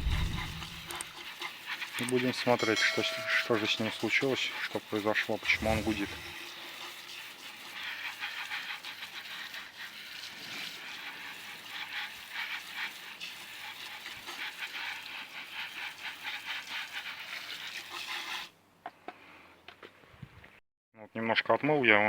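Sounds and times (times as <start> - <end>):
water spraying and splashing: 0.0 - 18.5.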